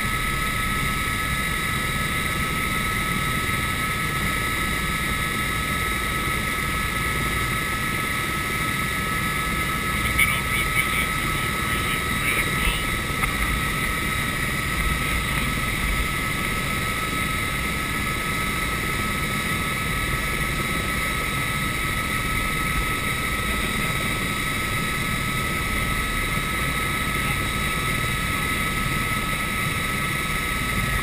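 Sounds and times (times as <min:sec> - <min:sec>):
helicopter engine and rotor running: 0:00.0 - 0:31.0.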